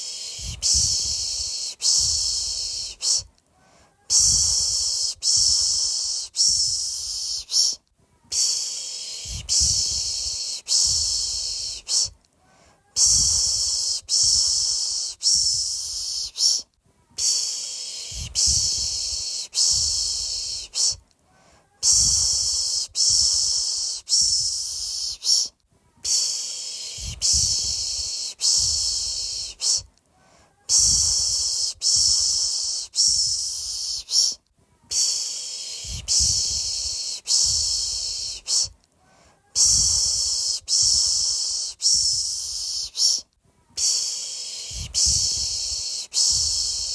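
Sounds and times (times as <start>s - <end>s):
person shushing: 0.0s - 21.0s, 21.6s - 46.9s
breath rumble on microphone: 0.1s - 25.2s, 25.8s - 38.8s, 39.6s - 46.9s.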